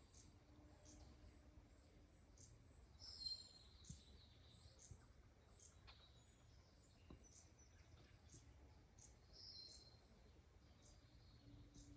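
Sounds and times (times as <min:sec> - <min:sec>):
faint high bird chirps: 0:02.2 - 0:11.9.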